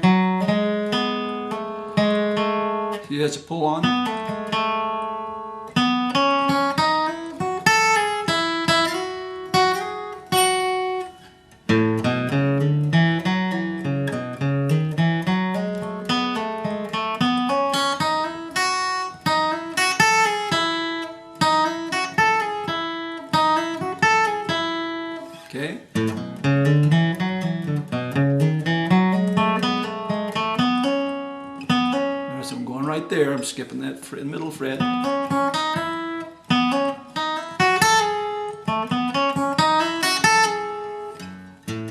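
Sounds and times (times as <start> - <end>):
flatpicked acoustic guitar: 0.0 - 41.9.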